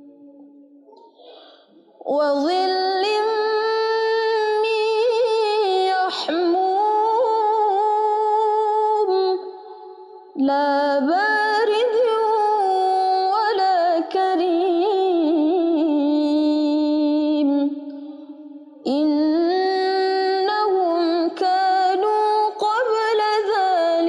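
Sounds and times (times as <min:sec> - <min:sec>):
woman chanting recitation: 0:02.0 - 0:09.5, 0:10.4 - 0:17.8, 0:18.9 - 0:24.0.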